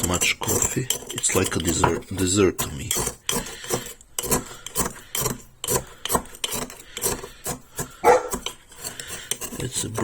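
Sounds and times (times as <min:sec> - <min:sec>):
teaspoon scraping in a cup: 0:00.0 - 0:10.0.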